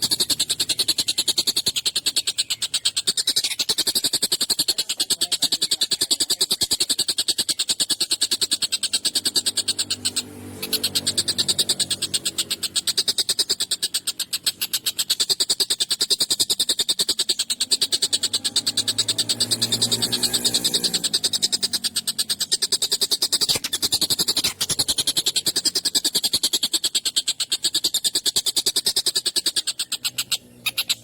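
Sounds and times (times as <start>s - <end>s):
kingfisher rattling trill: 0.0s - 31.0s.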